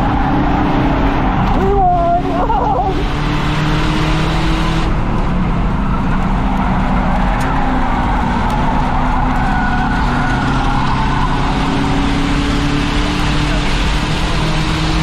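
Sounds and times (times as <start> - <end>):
car engine roaring at high revs: 0.0 - 15.0
road and wind noise: 0.0 - 15.0.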